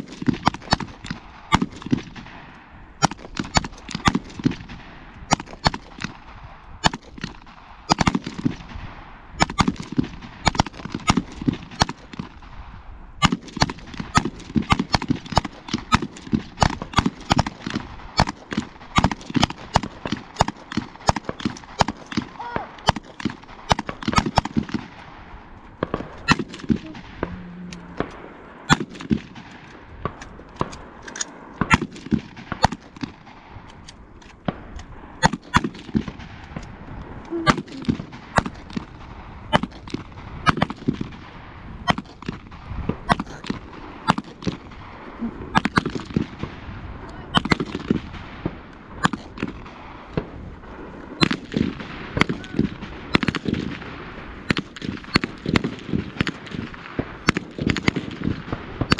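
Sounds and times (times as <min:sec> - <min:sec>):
gunshots: 0:00.0 - 0:58.9.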